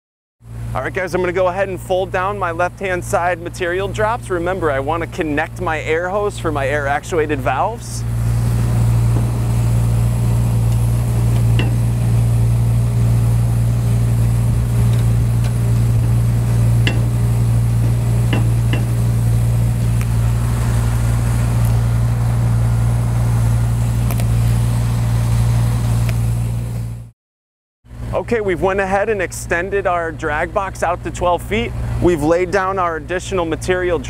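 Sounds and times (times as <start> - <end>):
diesel engine idling: 0.4 - 27.1, 27.9 - 34.0.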